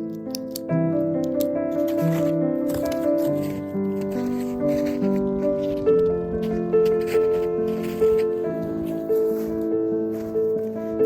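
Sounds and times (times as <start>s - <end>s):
slow sustained background music: 0.0s - 11.0s.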